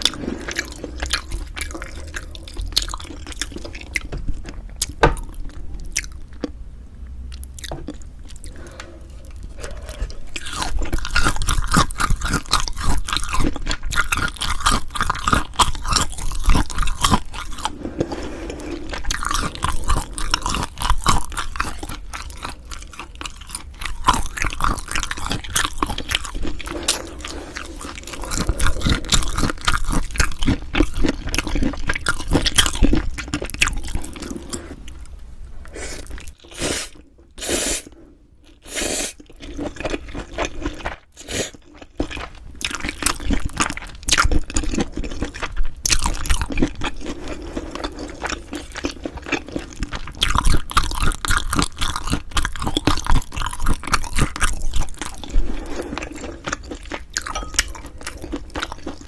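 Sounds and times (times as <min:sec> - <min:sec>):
close chewing of food: 0:00.0 - 0:59.0.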